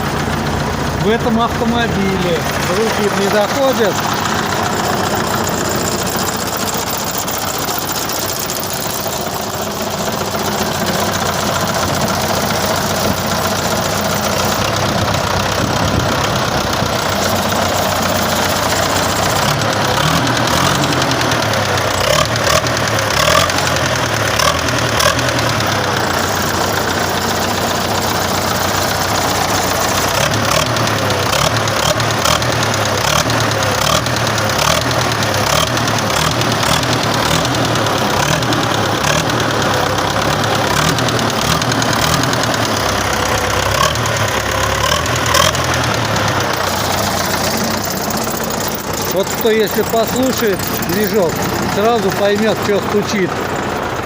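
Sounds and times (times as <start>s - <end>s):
truck engine knocking: 0.0s - 54.0s.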